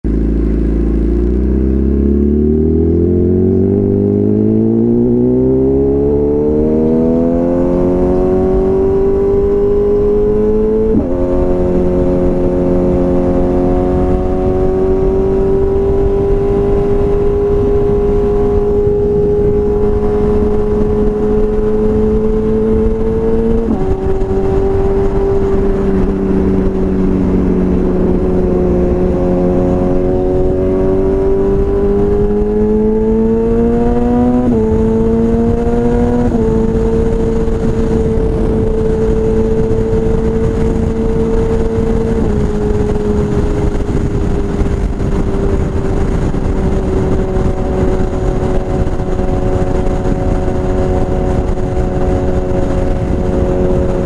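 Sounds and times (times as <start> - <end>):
motorcycle accelerating: 0.0 - 54.0.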